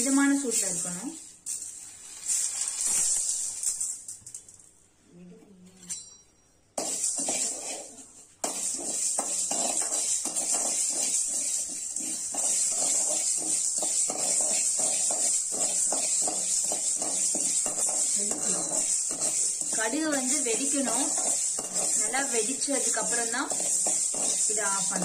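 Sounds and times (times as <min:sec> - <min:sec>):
spoon scraping roasting seeds: 0:00.0 - 0:04.2, 0:06.8 - 0:25.0.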